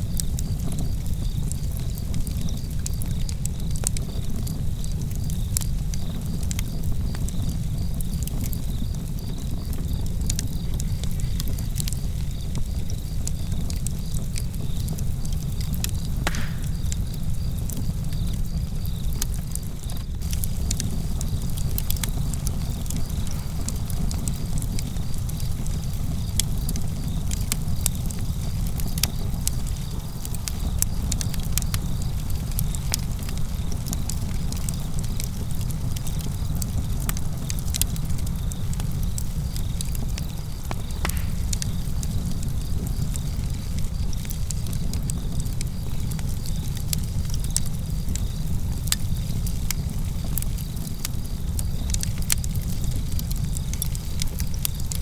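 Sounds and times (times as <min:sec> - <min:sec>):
campfire crackling and popping: 0:00.0 - 0:55.0
crickets chirping: 0:00.2 - 0:55.0.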